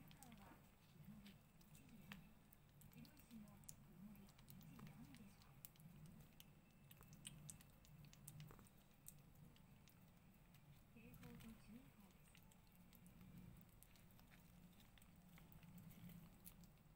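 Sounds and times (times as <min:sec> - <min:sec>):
kitten licking wet clicks: 0:00.0 - 0:16.9.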